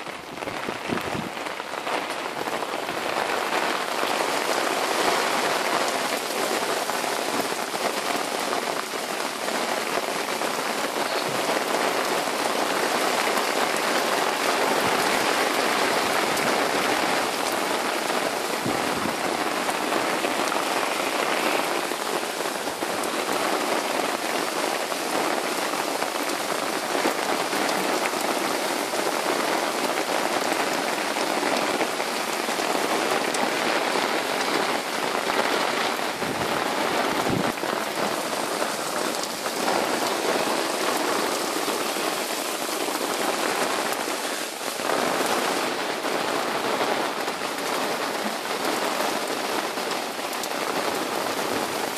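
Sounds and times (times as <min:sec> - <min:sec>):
rain patter: 0:00.0 - 0:51.9.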